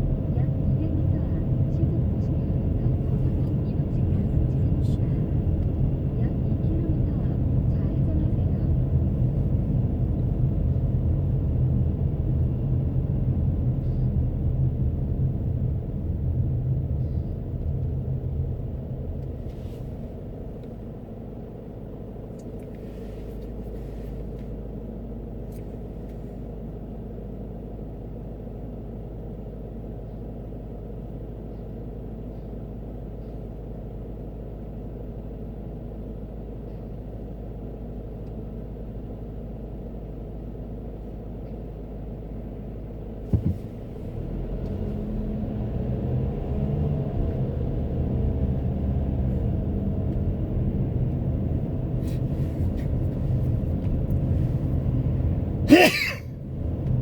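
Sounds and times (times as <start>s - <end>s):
road and engine rumble: 0.0s - 57.0s
steady low hum: 0.0s - 57.0s.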